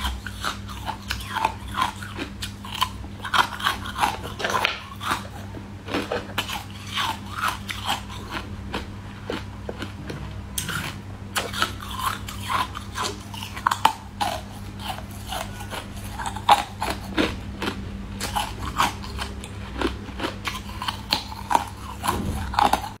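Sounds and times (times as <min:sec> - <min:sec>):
crisp bites and chewing: 0:00.0 - 0:23.0
faint low hum: 0:00.0 - 0:23.0.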